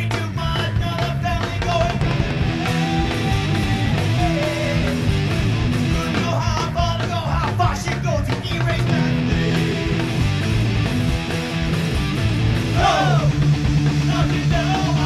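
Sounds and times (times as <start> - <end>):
heavy rock music: 0.0 - 15.0.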